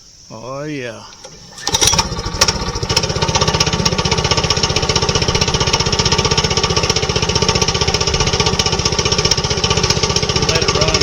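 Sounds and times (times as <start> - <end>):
small gasoline engine chattering: 1.0 - 11.0.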